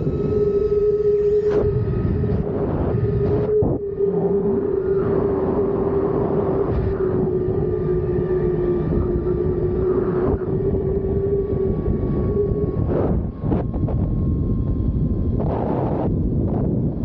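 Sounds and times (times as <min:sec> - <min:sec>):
dense rushing rumble: 0:00.0 - 0:17.0.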